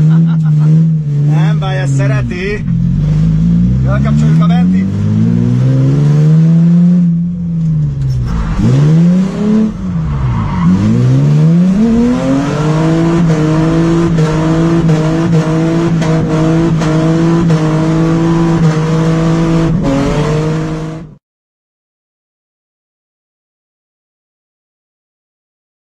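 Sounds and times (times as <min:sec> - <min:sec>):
car engine revving: 0:00.0 - 0:21.2.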